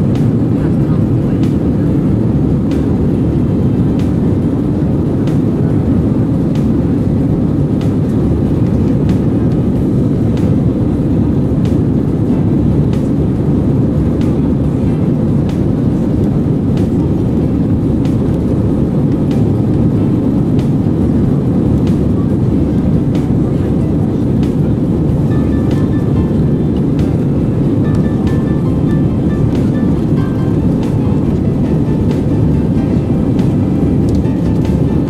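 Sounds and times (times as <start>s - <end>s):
airplane cabin rumble: 0.0s - 35.0s.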